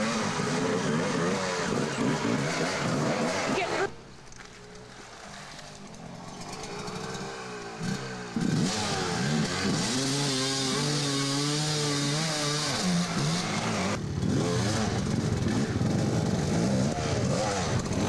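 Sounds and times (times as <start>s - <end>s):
dirt bike engine revving: 0.0s - 4.0s, 5.0s - 18.0s.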